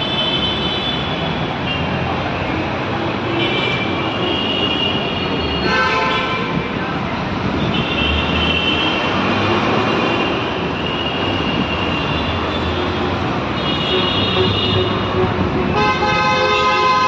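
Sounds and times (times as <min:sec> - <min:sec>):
road traffic roar: 0:00.0 - 0:17.0.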